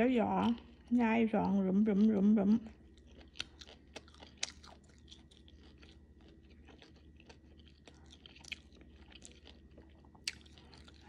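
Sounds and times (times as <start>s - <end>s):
chewing crunchy food: 0.2s - 11.0s.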